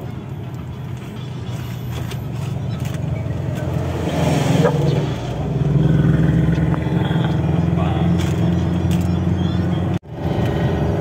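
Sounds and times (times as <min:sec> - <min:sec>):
engine and road noise in cabin: 0:00.0 - 0:11.0.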